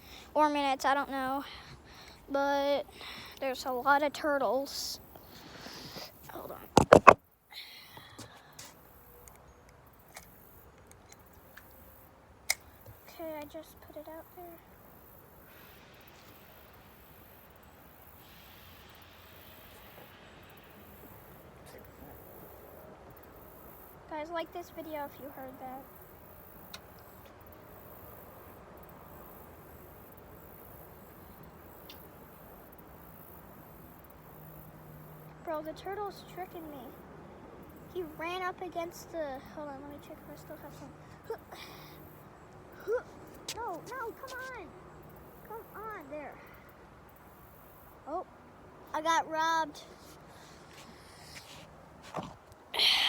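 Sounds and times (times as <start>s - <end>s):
faint steady hiss: 0.0s - 53.0s
high insect drone: 0.0s - 53.0s.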